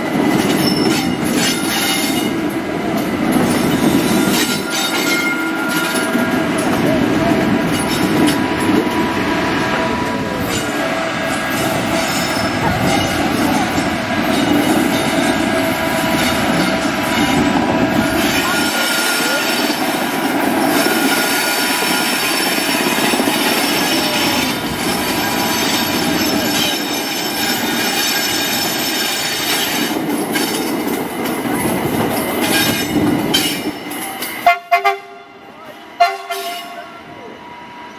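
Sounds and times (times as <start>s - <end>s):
locomotive running noise: 0.0s - 37.9s
steel wheels squealing on rails: 0.0s - 37.9s.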